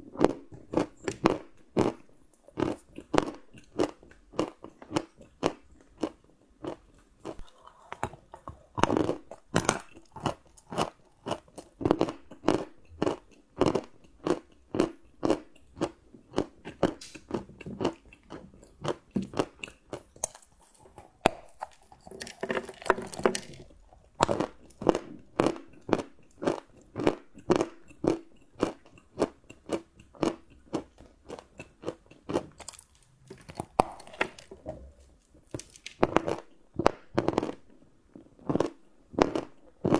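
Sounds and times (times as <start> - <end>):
chewing crunchy chocolate: 0.0 - 39.9.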